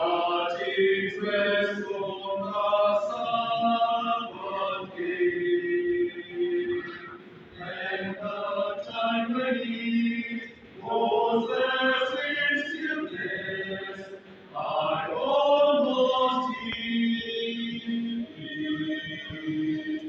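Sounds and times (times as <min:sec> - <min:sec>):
voices singing chant-like phrases: 0:00.0 - 0:20.0.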